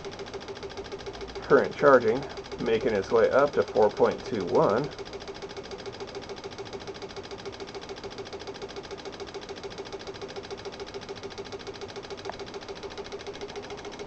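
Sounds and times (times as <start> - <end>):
relay clicking: 0.0 - 14.0.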